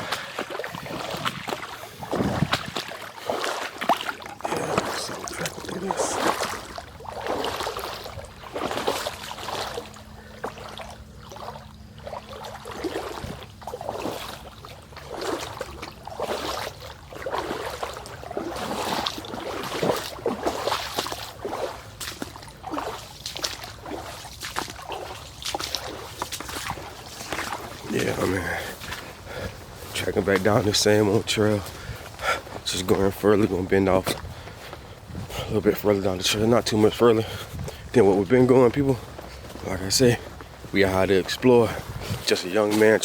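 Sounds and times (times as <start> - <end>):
footsteps on woodland trail: 0.0 - 43.0.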